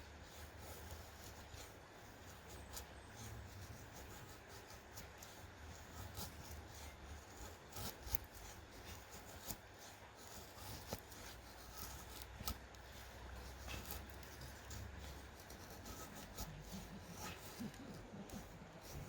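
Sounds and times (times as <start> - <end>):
rubbing and scraping of objects: 0.0 - 19.0.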